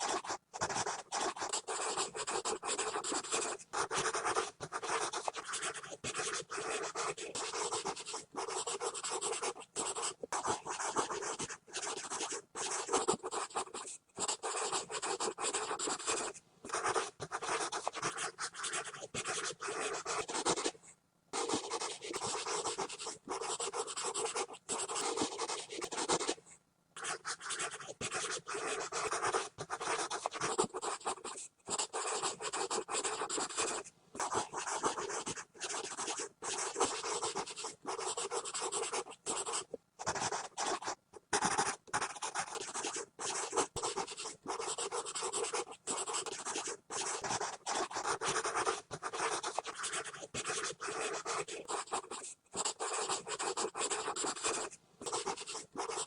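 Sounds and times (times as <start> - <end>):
pencil scribbling on paper: 0.0 - 20.8, 21.4 - 26.4, 27.0 - 56.0.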